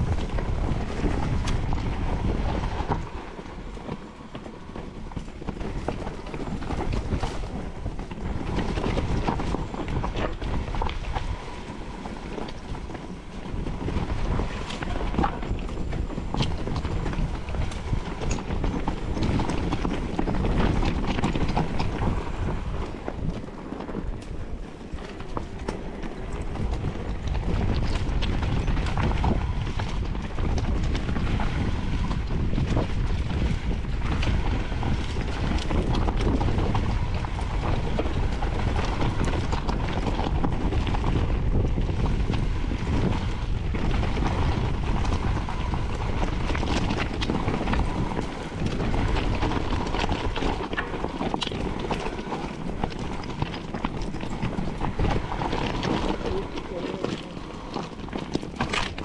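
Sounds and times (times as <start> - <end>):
bike rattling over rocks: 0.0 - 59.0
tyres rumbling on stony trail: 0.0 - 59.0
wind buffeting microphone: 0.0 - 59.0.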